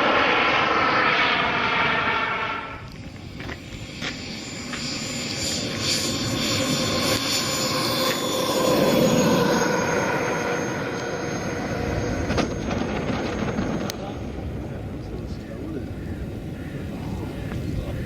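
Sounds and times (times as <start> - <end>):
jet aircraft passing: 0.0 - 18.0.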